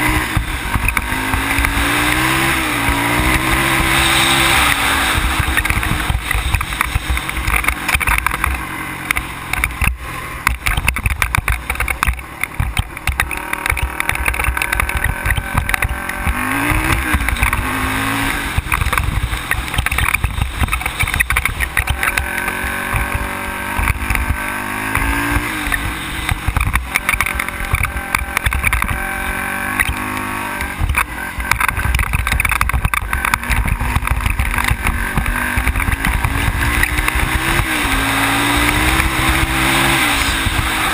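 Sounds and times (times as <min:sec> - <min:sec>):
atv engine running: 0:00.0 - 0:40.9
low rumble with jolts: 0:00.0 - 0:40.9.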